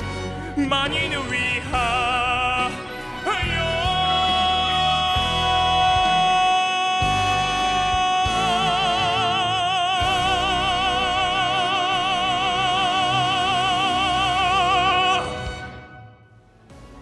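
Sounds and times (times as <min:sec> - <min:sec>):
musical accompaniment: 0:00.0 - 0:17.0
man singing a high note: 0:00.6 - 0:15.4.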